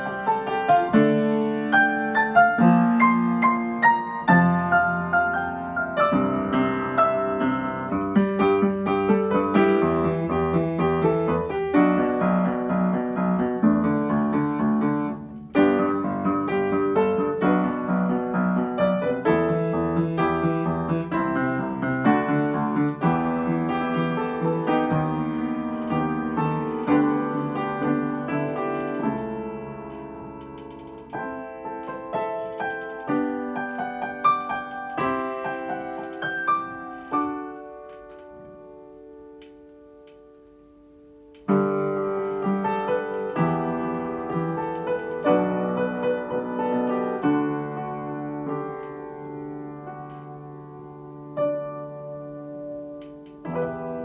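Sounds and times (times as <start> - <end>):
upright piano playing: 0.0 - 54.0.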